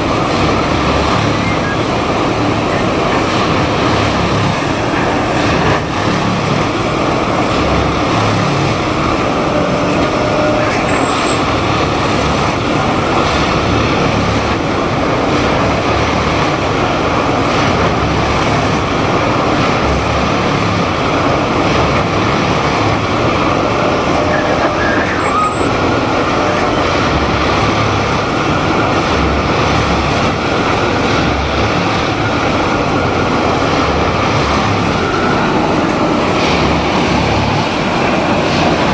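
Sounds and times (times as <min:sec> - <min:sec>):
heavy diesel machine running: 0:00.0 - 0:38.9.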